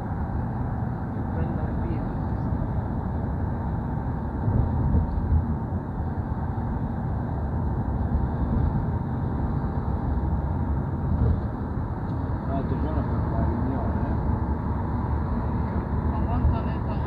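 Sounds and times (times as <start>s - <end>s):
vehicle rumble in tunnel: 0.0s - 17.0s.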